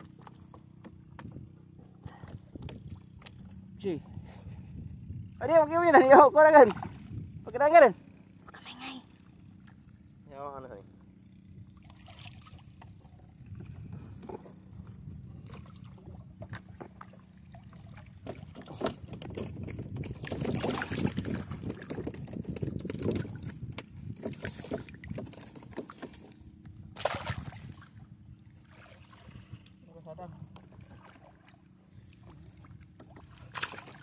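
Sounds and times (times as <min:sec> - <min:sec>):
water sloshing and splashing: 0:00.0 - 0:05.0, 0:05.8 - 0:07.4, 0:10.9 - 0:34.0.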